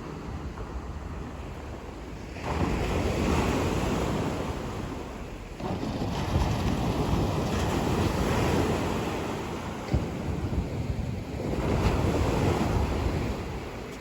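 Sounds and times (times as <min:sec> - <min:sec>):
sea waves breaking on shore: 0:00.0 - 0:14.0
wind rumbling on microphone: 0:00.0 - 0:14.0.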